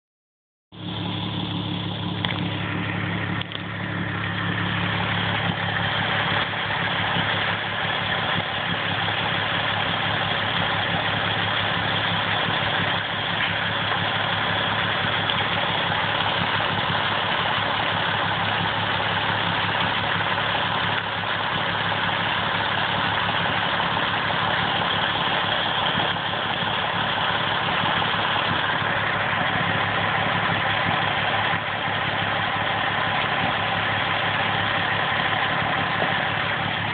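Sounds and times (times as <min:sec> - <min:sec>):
car engine idling: 0:00.7 - 0:36.9.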